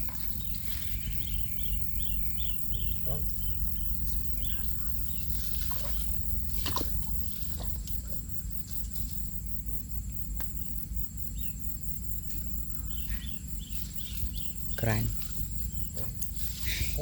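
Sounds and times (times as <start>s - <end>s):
high insect trill: 0.0s - 17.0s.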